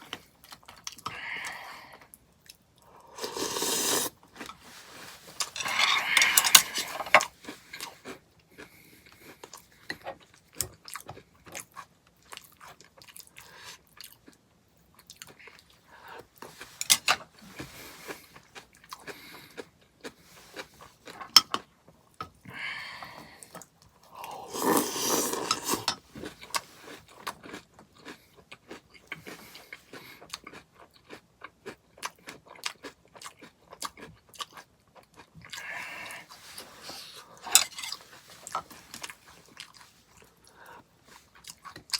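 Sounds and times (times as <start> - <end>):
chewing and crunching cereal: 0.0 - 22.2, 22.9 - 41.9.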